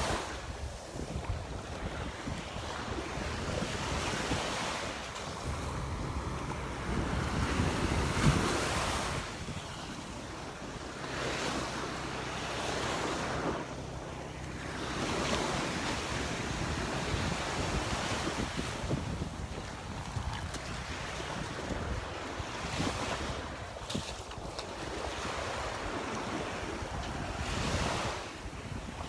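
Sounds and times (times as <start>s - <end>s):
surf breaking on beach: 0.0s - 29.0s
wind on microphone: 0.0s - 29.0s.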